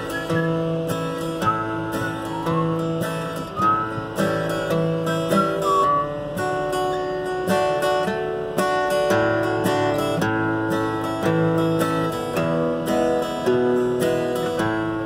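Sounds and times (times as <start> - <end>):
acoustic guitar strummed and picked: 0.0 - 15.0
sliding high guitar notes: 0.0 - 15.0.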